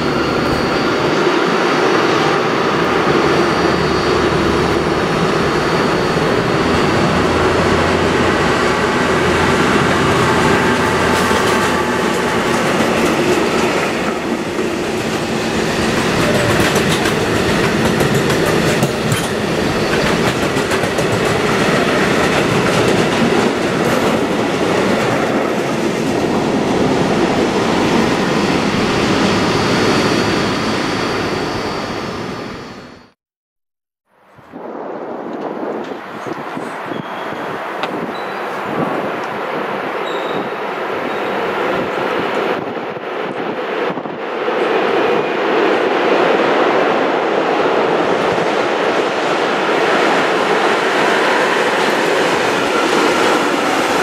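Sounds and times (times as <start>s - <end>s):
train wheels on rails: 0.0s - 32.3s, 34.6s - 54.0s.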